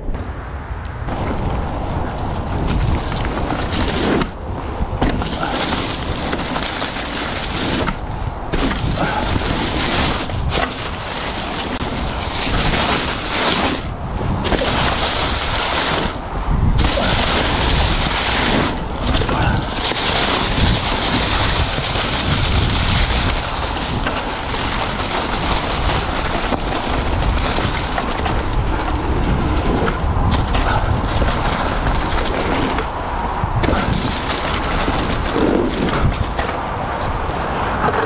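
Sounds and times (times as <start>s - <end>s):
bike tyre noise on dirt: 0.0s - 38.0s
wind rushing over microphone: 0.0s - 38.0s
bike clicks and knocks: 0.8s - 38.0s.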